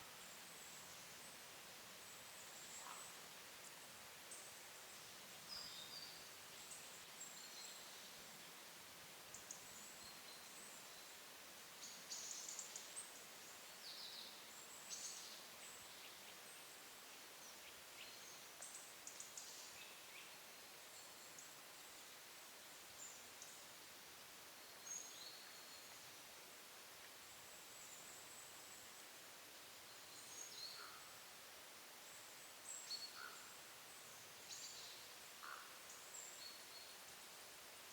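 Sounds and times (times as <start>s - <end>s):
soft steady hiss: 0.0s - 37.9s.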